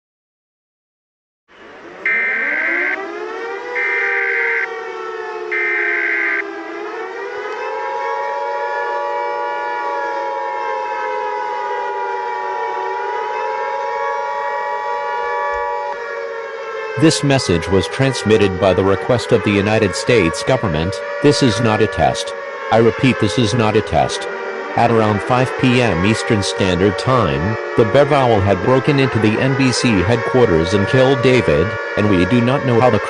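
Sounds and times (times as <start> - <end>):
civil defense siren wailing: 1.5 - 33.0.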